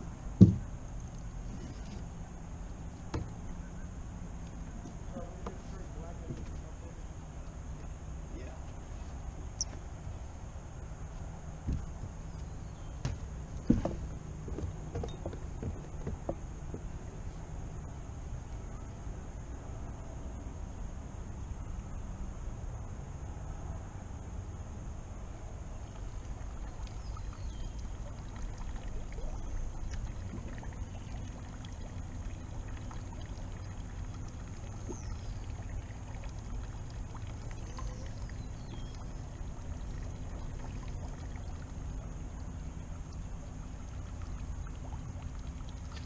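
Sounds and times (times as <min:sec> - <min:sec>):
boat engine rumble: 0:00.0 - 0:46.0.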